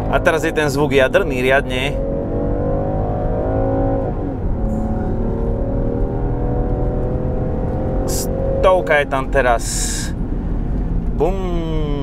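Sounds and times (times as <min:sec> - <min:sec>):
engine pulling at full throttle: 0:00.0 - 0:12.0.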